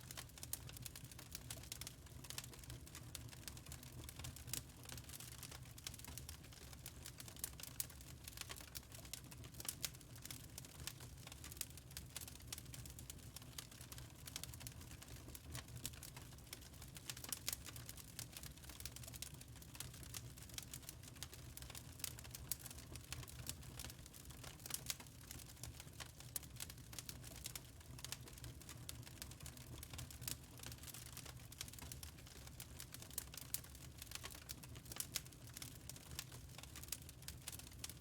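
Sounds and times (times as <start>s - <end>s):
wood fire crackling in a fireplace: 0.0s - 38.0s.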